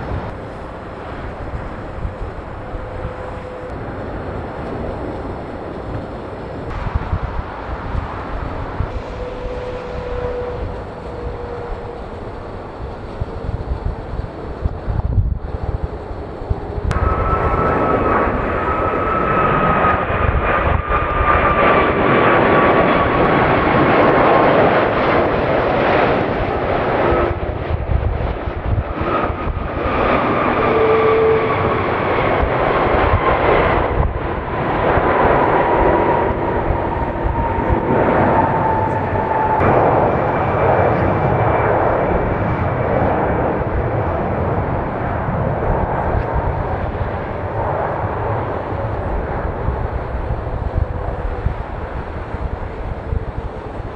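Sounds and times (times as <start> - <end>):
jet airliner taking off: 0.0 - 53.9.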